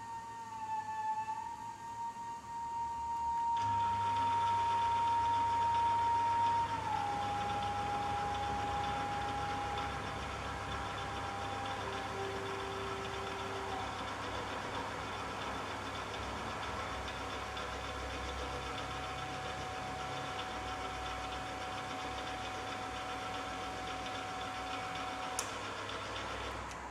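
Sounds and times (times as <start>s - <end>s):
milling machine motor whine: 0.0s - 26.9s.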